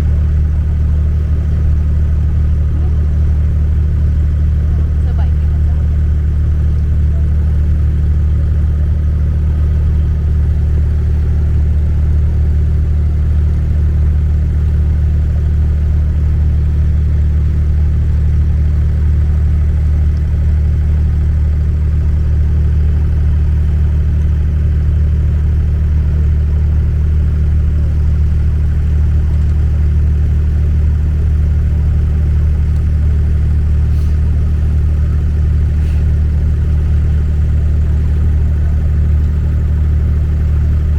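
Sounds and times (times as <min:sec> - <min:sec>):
boat engine droning: 0:00.0 - 0:23.1, 0:28.5 - 0:40.9.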